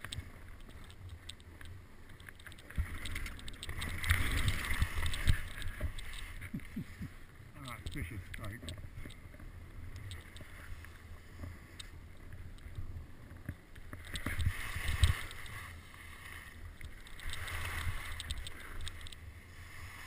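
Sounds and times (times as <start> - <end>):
skis scraping over snow: 0.0 - 20.0
wind rumbling on microphone: 0.0 - 20.0.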